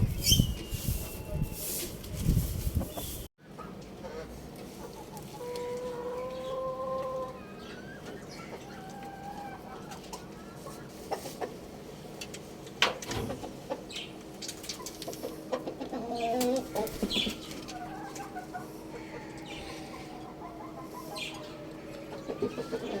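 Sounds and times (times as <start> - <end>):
chickens clucking: 0.2 - 23.0.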